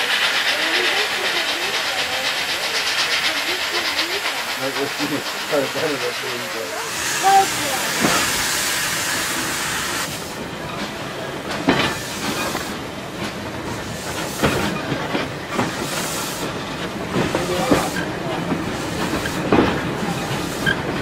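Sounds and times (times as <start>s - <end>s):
steam hiss: 0.0s - 21.0s
train rumble: 0.0s - 21.0s.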